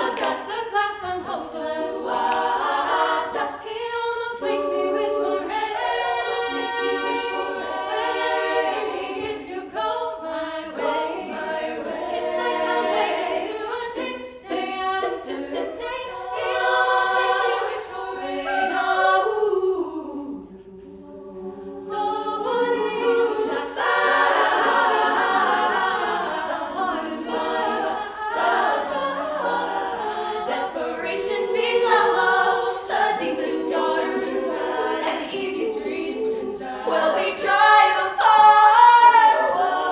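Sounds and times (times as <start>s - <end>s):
women singing a cappella harmony: 0.0s - 39.9s.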